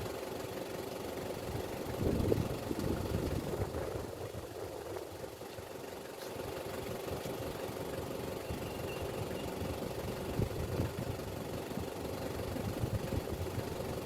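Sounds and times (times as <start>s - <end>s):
engine-like mechanical hum: 0.0s - 14.0s.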